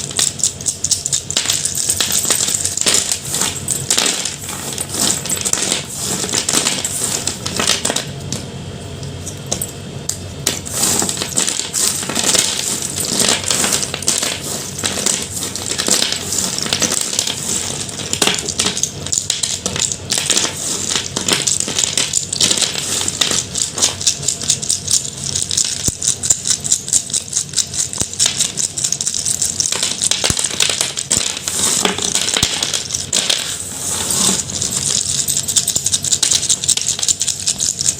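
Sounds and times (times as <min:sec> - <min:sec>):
chalk crunching and crackling: 0:02.2 - 0:08.0, 0:10.5 - 0:37.9.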